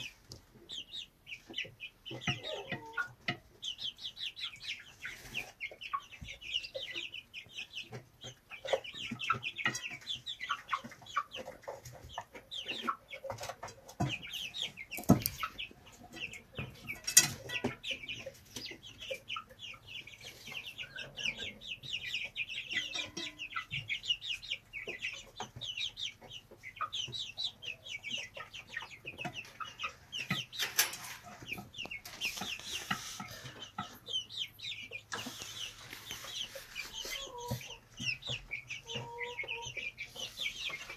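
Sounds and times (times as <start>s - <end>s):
chicks peeping: 0.0s - 40.9s
hens clucking: 0.0s - 40.9s.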